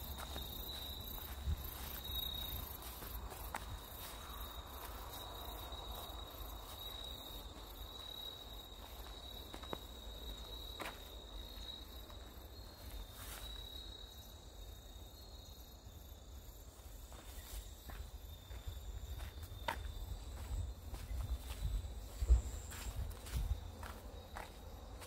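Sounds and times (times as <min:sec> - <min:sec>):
crickets and insects chirping: 0:00.0 - 0:25.0.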